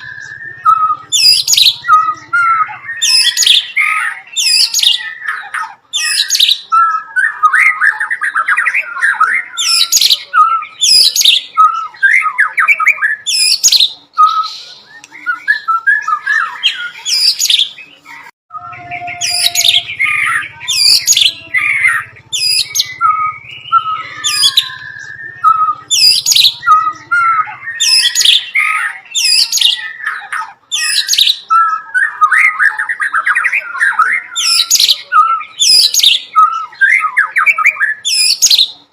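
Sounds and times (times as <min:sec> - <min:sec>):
songbird singing whistles and chatter: 0:00.0 - 0:38.9.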